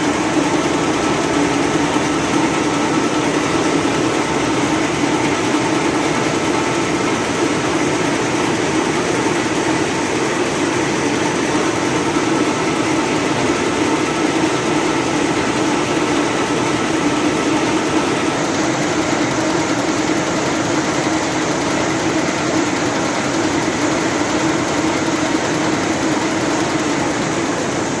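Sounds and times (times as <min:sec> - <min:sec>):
napkin making machine running: 0:00.0 - 0:28.0.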